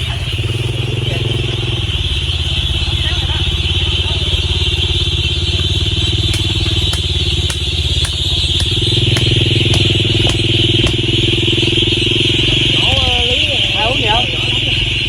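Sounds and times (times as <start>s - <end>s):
small engine running: 0.0s - 15.0s
light regular ticking: 0.5s - 15.0s.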